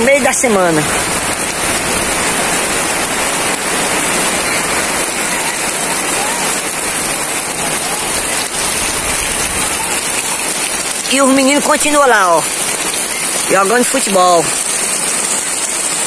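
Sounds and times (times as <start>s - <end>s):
rain pattering on tarpaulin: 0.0s - 16.0s.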